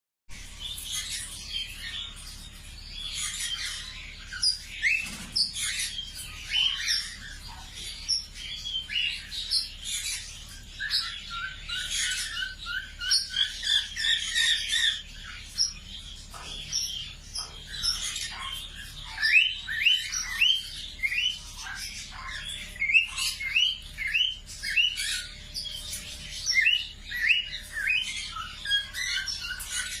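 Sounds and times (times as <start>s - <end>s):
budgerigars chirping and chattering: 0.3s - 30.0s.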